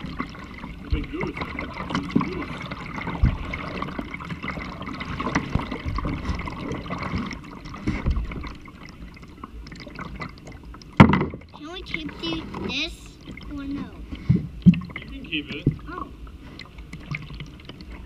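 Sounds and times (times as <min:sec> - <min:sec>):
paddle splashing water: 0:00.0 - 0:18.0
water trickling drips: 0:00.0 - 0:18.0.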